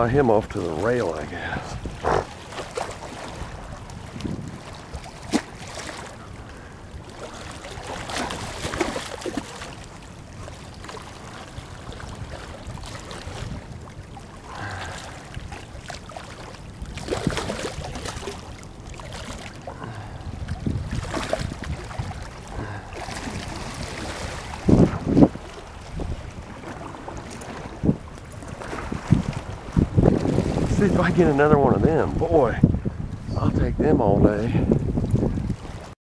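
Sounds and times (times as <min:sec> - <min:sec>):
wind buffeting microphone: 0:00.0 - 0:35.9
rushing water: 0:00.0 - 0:36.0.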